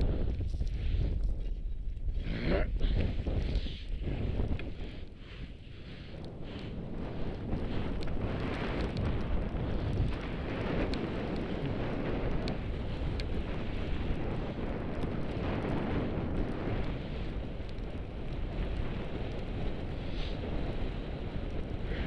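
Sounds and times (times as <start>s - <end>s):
wind buffeting microphone: 0.0s - 22.0s
faint ticks: 2.8s - 22.0s.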